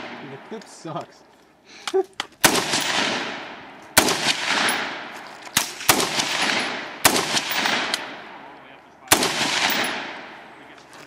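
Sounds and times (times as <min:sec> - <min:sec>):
rifle shots echoing: 0:00.0 - 0:00.6, 0:02.4 - 0:10.7.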